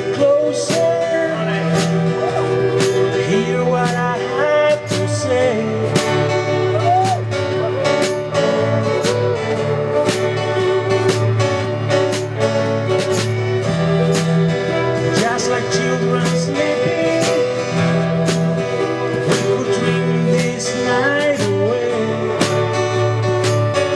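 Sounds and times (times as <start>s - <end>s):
guitar music with beat: 0.0s - 23.9s
person singing: 0.0s - 23.9s.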